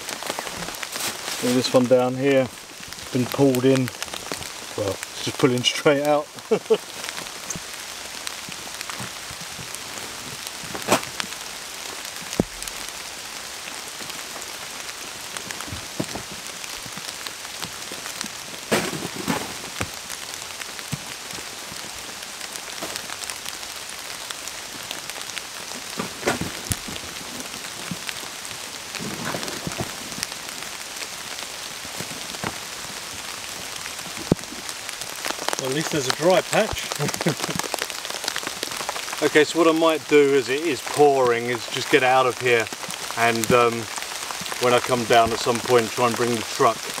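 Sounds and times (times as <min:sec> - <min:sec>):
heavy pouring rain: 0:00.0 - 0:47.0.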